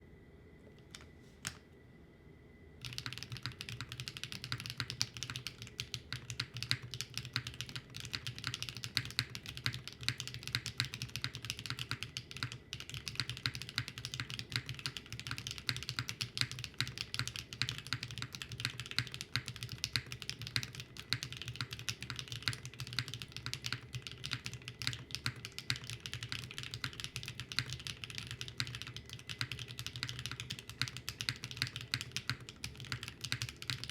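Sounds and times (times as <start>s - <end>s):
fast mechanical keyboard typing: 2.8s - 33.9s.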